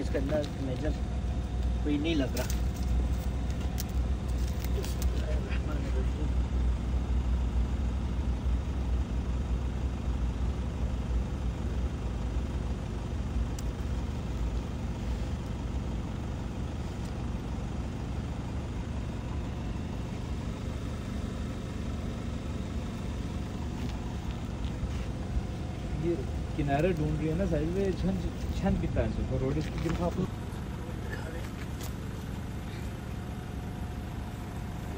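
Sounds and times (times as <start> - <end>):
vehicle engine idling: 0.0 - 34.9.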